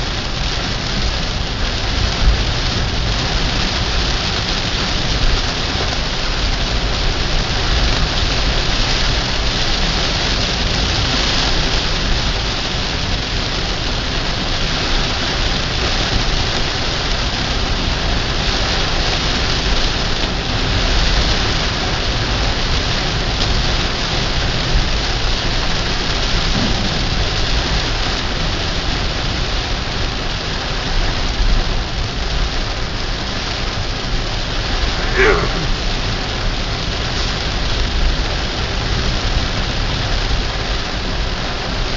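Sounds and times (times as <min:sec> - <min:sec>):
heavy rain drumming on car roof: 0:00.0 - 0:41.9.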